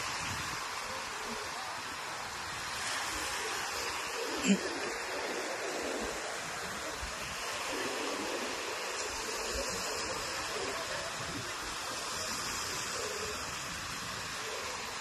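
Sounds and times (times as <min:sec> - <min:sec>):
sea surf washing up beach: 0:00.0 - 0:15.0.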